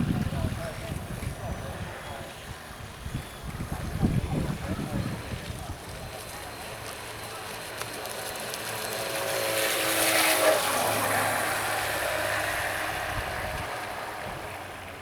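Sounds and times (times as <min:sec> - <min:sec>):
model boat motor whining: 0:00.1 - 0:15.0.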